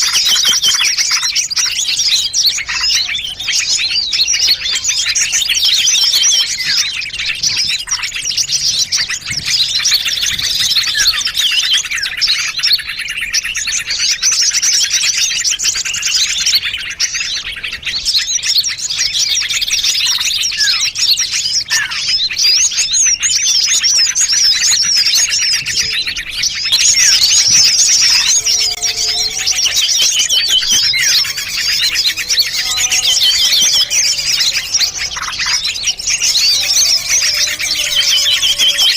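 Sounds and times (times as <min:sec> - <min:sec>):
low whistled bird notes: 0:00.0 - 0:38.9
small songbirds chirping: 0:00.0 - 0:38.9.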